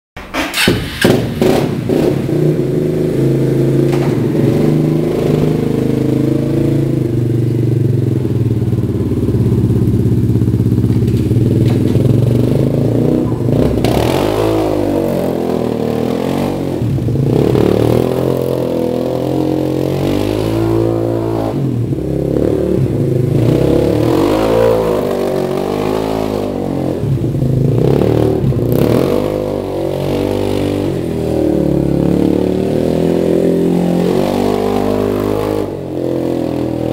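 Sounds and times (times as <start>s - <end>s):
quad engine revving: 0.4s - 36.9s.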